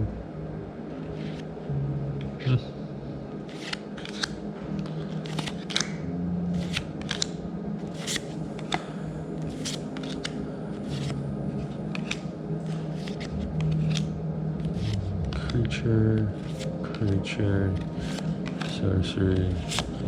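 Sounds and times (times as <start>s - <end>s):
cards being flipped through: 1.1s - 1.5s, 3.4s - 20.0s.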